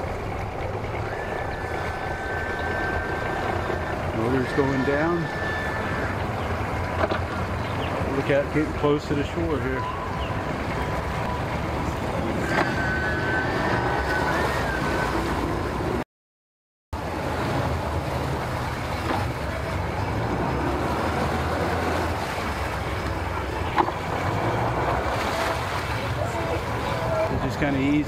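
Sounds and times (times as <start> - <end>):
outboard motors idling: 0.0 - 16.0, 17.0 - 28.0
water sloshing: 0.0 - 16.0, 17.0 - 28.0.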